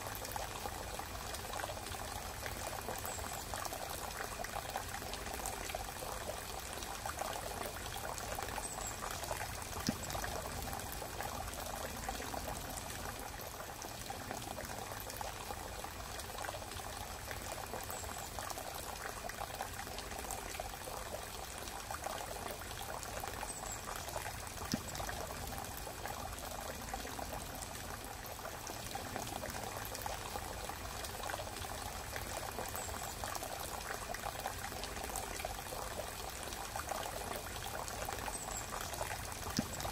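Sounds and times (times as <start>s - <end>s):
steady water-like noise: 0.0s - 39.9s.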